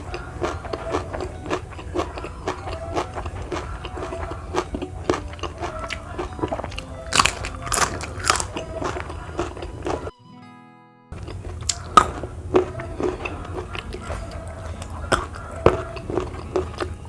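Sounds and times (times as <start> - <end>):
chewing crisp food: 0.0 - 10.1, 11.2 - 17.0.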